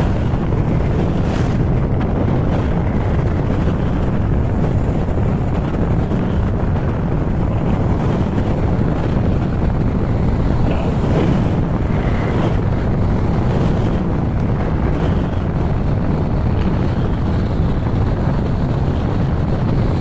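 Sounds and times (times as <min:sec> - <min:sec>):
road noise: 0:00.0 - 0:20.0
wind rumble on microphone: 0:00.0 - 0:20.0.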